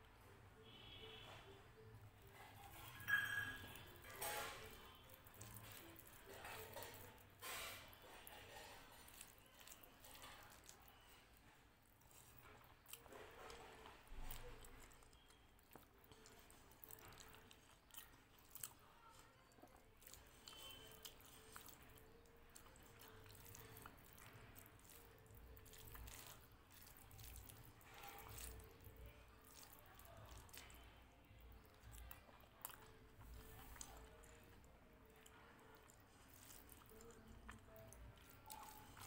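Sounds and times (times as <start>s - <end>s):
fingers squishing food: 0.6s - 39.0s
person chewing food: 0.6s - 39.0s.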